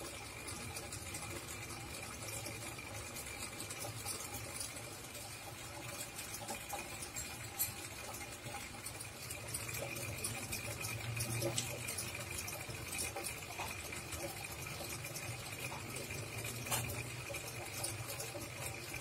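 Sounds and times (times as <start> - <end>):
aquarium water noise: 0.0 - 19.0.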